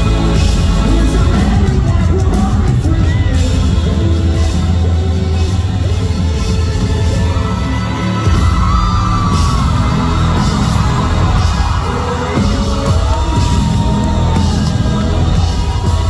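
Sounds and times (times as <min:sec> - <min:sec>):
fans yelling along: 0:00.0 - 0:16.0
live pop-rock band: 0:00.0 - 0:16.0.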